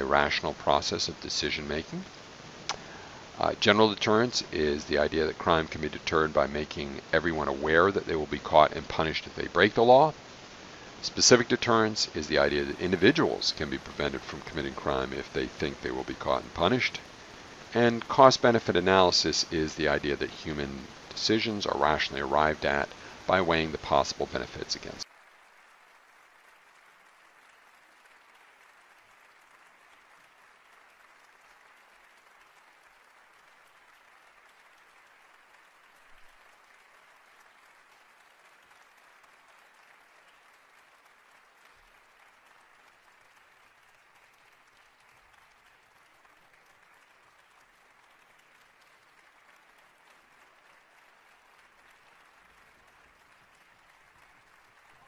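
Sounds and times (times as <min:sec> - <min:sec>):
faint recording hiss: 0:00.0 - 0:55.0.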